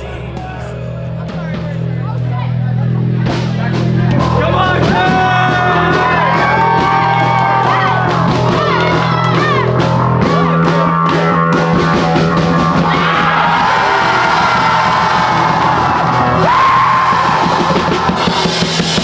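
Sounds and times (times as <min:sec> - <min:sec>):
indie rock band music: 0:00.0 - 0:19.0.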